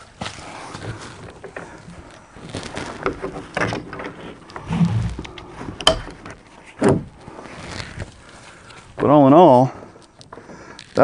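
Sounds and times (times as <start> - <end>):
kayak knocking and scraping: 0.0 - 9.1.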